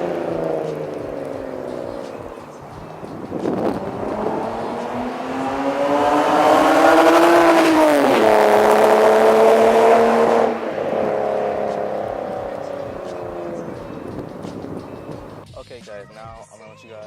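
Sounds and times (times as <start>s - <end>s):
car engine accelerating hard: 0.0s - 15.4s.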